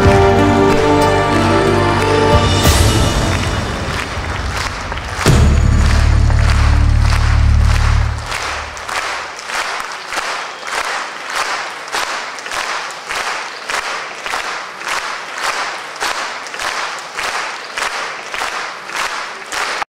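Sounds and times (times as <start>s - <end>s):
audience clapping in unison: 0.0s - 19.9s.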